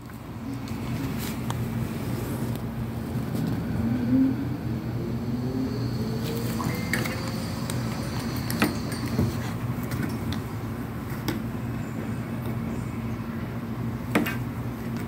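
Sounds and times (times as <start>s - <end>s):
mechanical hum rising in pitch: 0.0s - 14.9s.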